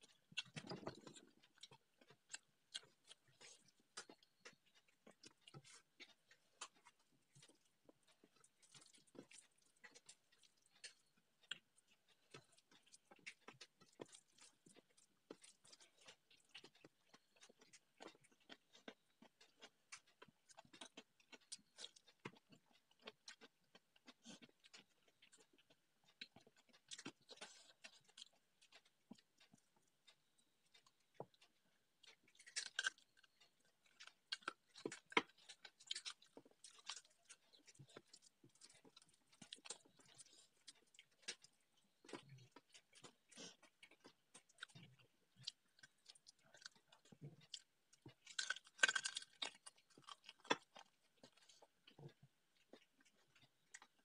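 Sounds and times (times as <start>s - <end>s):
chewing and wet mouth clicks: 0.0s - 54.0s.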